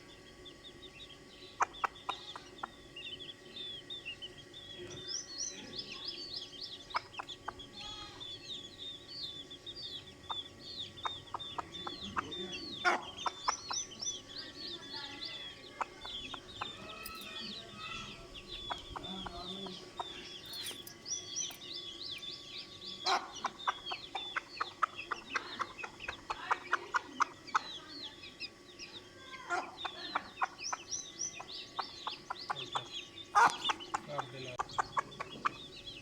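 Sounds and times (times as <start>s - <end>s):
chicks peeping: 0.0s - 36.0s
hen clucking: 0.6s - 36.0s.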